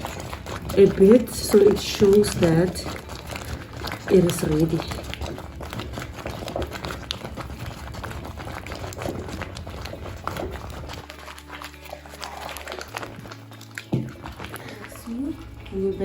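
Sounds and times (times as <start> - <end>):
porridge bubbling in a pot: 0.0 - 16.0.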